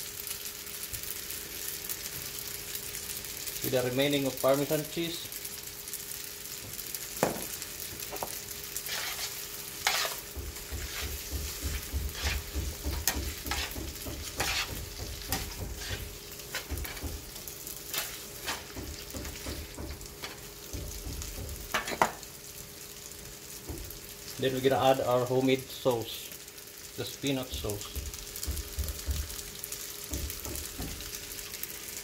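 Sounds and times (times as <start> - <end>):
pasta sizzling in a frying pan: 0.0 - 32.0.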